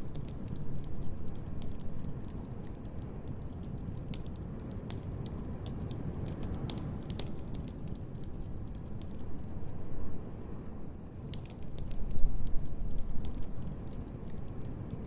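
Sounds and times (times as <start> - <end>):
wood fire crackling: 0.0 - 10.5, 11.1 - 15.0.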